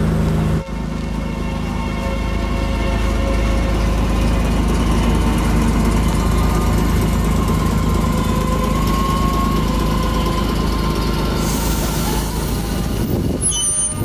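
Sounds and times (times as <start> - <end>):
electric trams rumbling on rails: 0.0 - 14.0.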